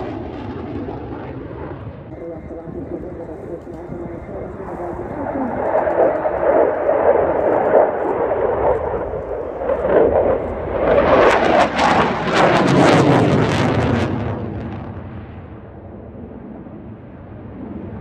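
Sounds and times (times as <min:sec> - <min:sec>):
fighter jet passing overhead: 0:00.0 - 0:18.0.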